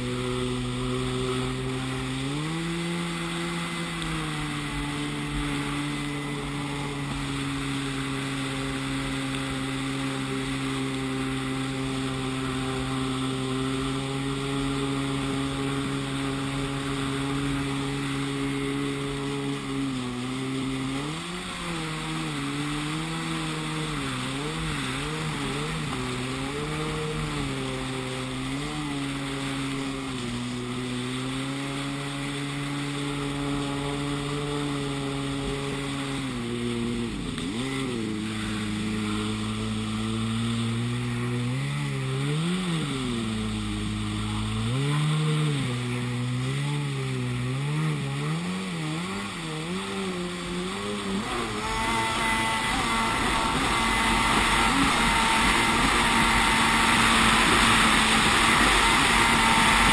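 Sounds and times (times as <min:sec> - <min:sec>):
jet ski engine revving: 0:00.0 - 0:59.9
water spray hissing: 0:00.0 - 0:59.9
wind: 0:00.0 - 0:59.9.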